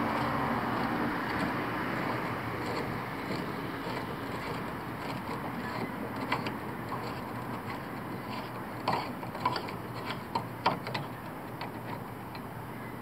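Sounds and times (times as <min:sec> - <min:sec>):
clicks and knocks of handling: 0:00.0 - 0:12.6
steady low hum: 0:00.0 - 0:13.0.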